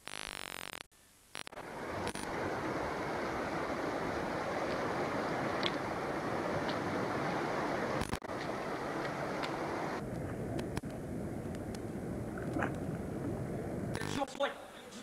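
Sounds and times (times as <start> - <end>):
wind buffeting microphone: 1.6 - 14.0.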